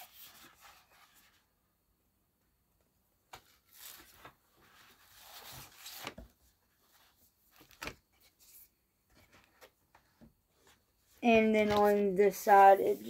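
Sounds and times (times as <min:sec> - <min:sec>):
paper sleeves rustling and sliding: 0:00.0 - 0:01.5, 0:03.3 - 0:13.0.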